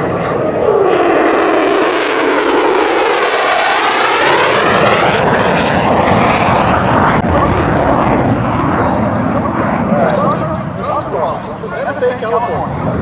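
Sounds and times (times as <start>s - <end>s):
airplane flying overhead: 0.0s - 13.0s.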